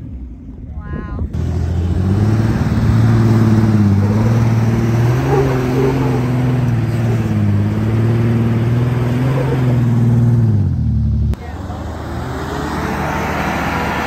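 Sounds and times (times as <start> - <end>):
car engine under load: 0.0 - 14.0.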